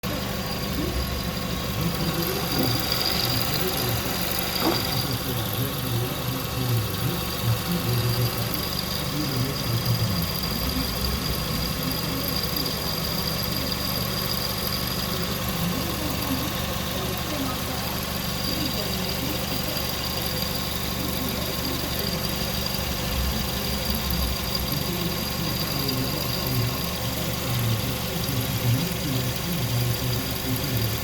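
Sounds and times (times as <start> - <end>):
car engine idling: 0.0 - 31.0
high-pitched pulley whine: 0.0 - 31.0.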